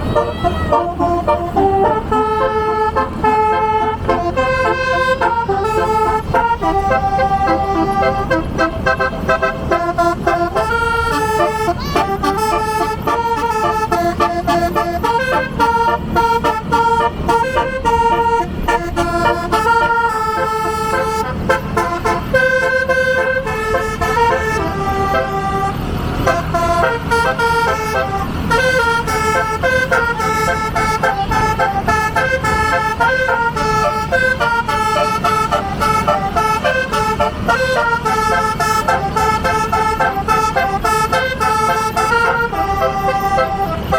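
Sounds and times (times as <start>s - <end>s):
bus musical horn melody: 0.0s - 43.9s.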